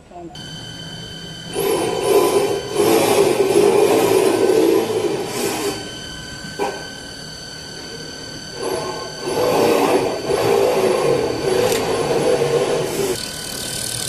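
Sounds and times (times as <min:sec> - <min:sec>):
machine hum with whining tones: 0:00.0 - 0:14.0
lathe cutting noise: 0:00.4 - 0:14.0.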